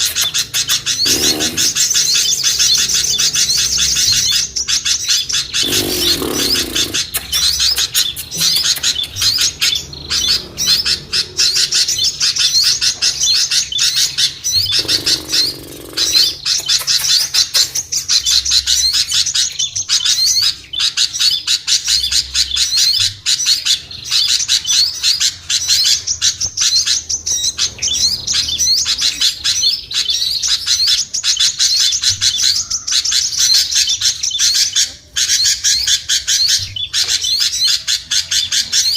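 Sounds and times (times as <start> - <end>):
lower-pitched bird calls: 0.0 - 38.9
songbirds chirping and twittering: 0.0 - 38.9.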